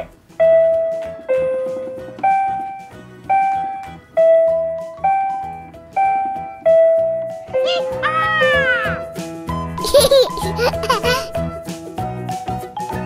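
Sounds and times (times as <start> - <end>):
soft repeating backing music: 0.0 - 13.0.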